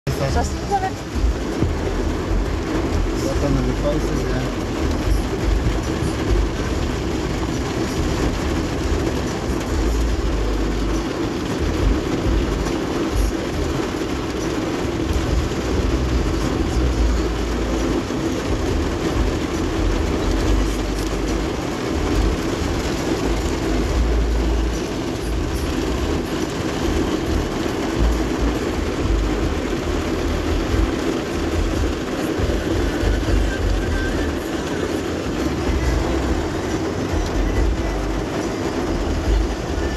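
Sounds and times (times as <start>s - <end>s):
heavy rain on vehicle roof: 0.0s - 39.9s.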